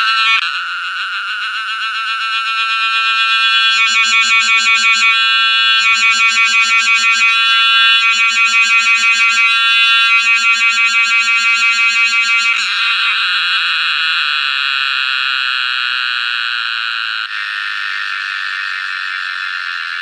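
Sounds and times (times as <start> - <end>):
cicada buzzing: 0.0 - 20.0.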